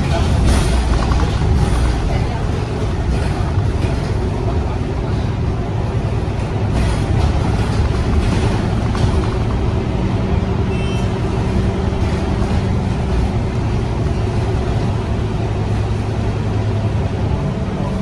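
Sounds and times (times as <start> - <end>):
bus diesel engine drone: 0.0 - 18.0
road noise: 0.0 - 18.0.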